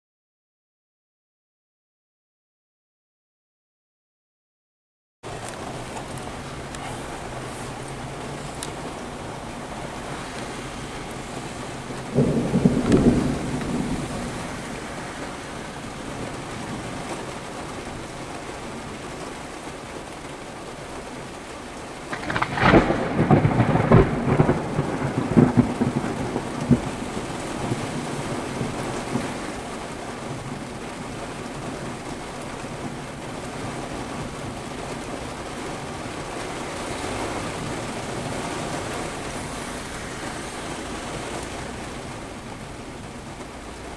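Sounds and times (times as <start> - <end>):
thunder rumbling: 5.2 - 19.2, 22.0 - 43.9.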